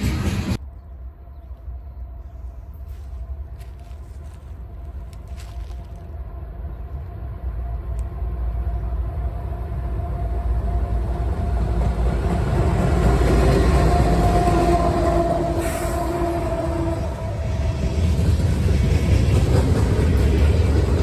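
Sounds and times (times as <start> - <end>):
diesel freight train rumble: 0.0 - 21.0.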